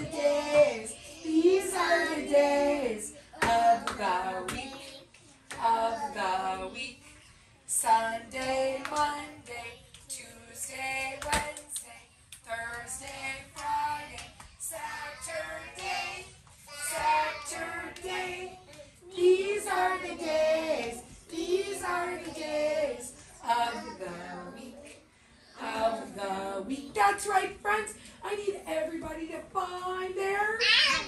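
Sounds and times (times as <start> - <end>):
children and woman singing: 0.0 - 31.0.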